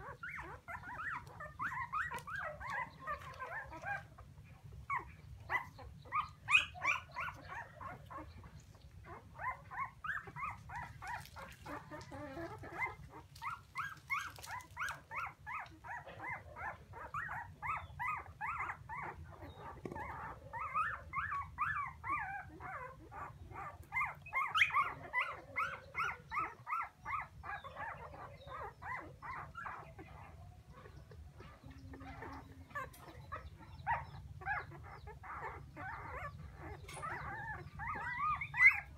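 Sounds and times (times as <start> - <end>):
puppies whining and crying: 0.0 - 38.9.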